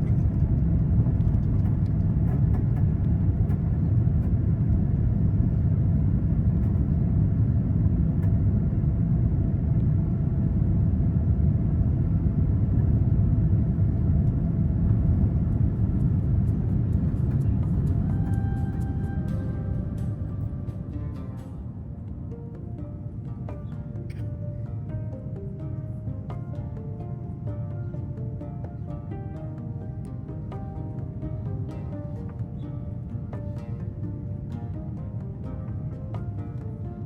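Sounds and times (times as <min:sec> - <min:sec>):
airliner cabin rumble: 0:00.0 - 0:37.0.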